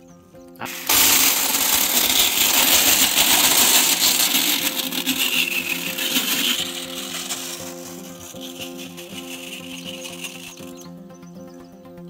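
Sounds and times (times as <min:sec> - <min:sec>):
grain pouring into a trough: 0:00.6 - 0:10.9.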